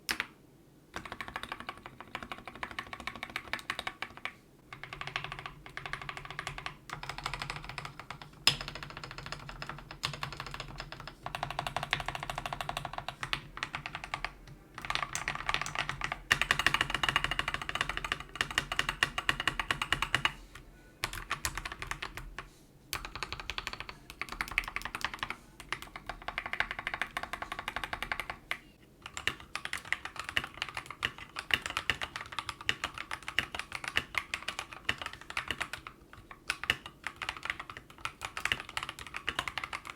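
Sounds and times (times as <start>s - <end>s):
mechanical keyboard typing: 0.9s - 20.4s, 21.0s - 39.9s.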